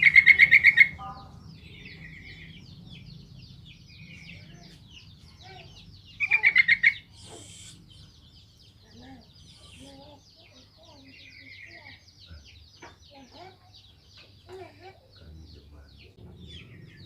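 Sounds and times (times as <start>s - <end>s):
bulbul chattering song: 0.0s - 17.0s.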